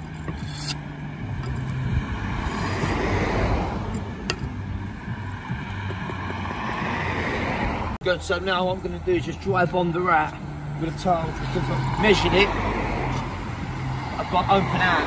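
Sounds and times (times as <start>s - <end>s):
car passing on road: 0.0s - 15.0s.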